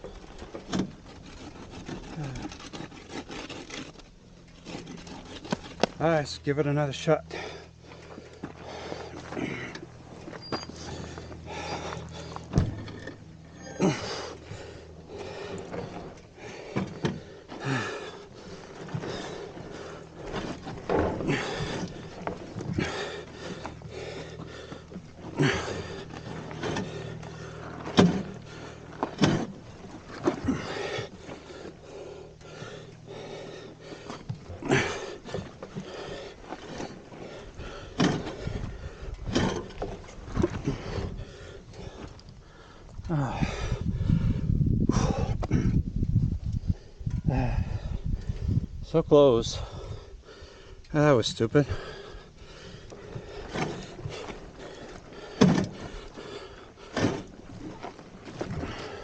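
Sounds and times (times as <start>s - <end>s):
low running hum: 0.0s - 59.0s
man breathing hard and grunting: 1.8s - 2.8s, 6.8s - 39.5s, 40.3s - 46.0s, 46.7s - 48.8s, 49.4s - 59.0s.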